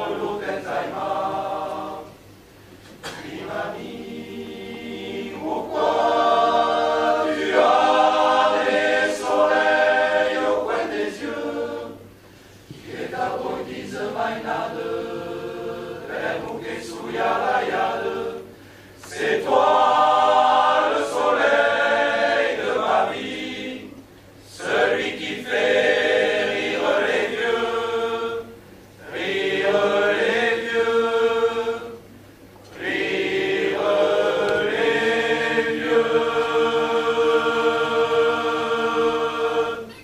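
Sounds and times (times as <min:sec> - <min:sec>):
male choir singing a cappella: 0:00.0 - 0:02.3, 0:03.0 - 0:12.1, 0:12.7 - 0:40.0.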